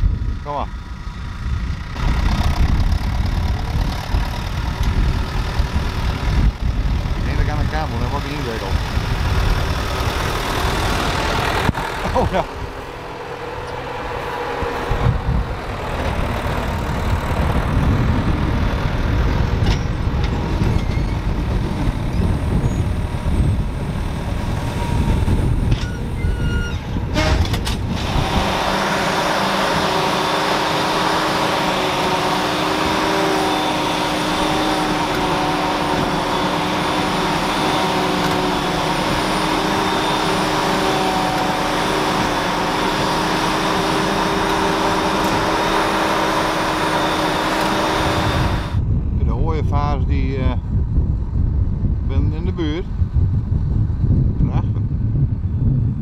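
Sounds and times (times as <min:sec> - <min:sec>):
harvester droning: 0:00.0 - 0:49.8
constant machine whine: 0:00.0 - 0:56.0
tractor and bale wrapper rumbling: 0:00.0 - 0:56.0.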